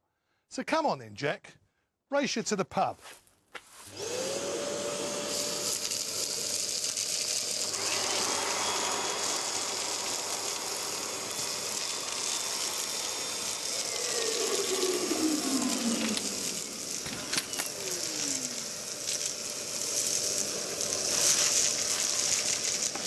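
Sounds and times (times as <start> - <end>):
vacuum cleaner motor whine: 3.9 - 23.0.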